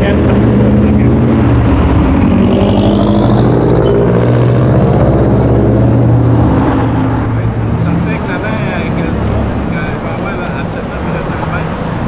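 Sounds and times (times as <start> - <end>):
sports car engine and exhaust: 0.0 - 12.0.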